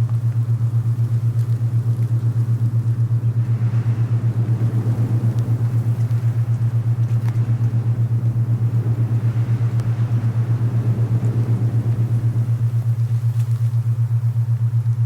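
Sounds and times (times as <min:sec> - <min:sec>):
low pulsing tone: 0:00.0 - 0:15.0
soft wind hiss: 0:00.0 - 0:15.0.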